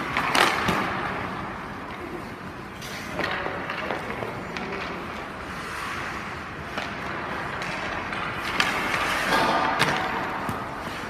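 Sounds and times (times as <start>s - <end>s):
skate blades scraping on ice: 0.0s - 11.0s.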